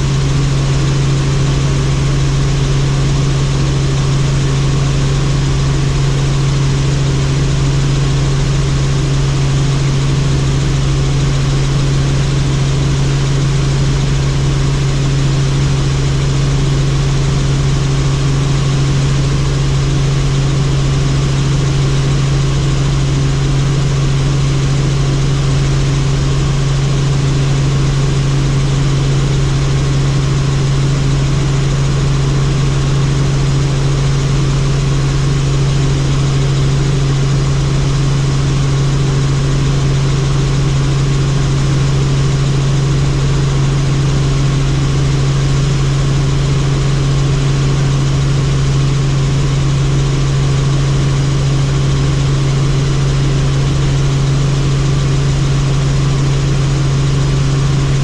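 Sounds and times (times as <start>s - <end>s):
helicopter engine and rotors: 0.0s - 58.0s.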